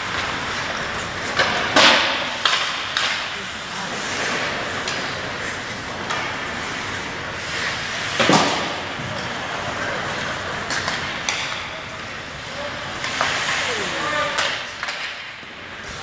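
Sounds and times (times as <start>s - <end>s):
puck banging against boards: 0.0s - 3.4s, 4.2s - 6.8s, 7.5s - 11.8s, 12.9s - 16.0s
hockey sticks and puck clacking: 0.0s - 16.0s
skates scraping on ice: 0.0s - 16.0s.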